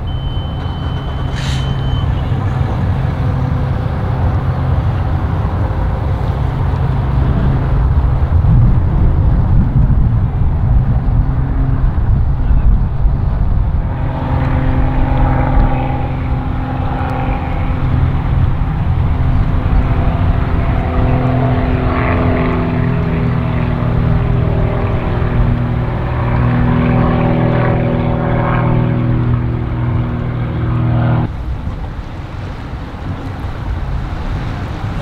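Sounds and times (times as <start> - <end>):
outboard boat motors running: 0.0 - 35.0.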